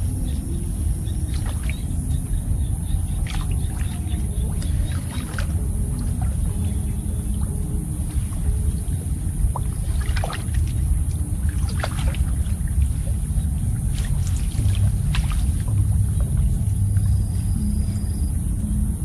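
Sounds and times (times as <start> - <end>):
steady low rumble: 0.0 - 19.0
water splashing and sloshing: 0.0 - 19.0.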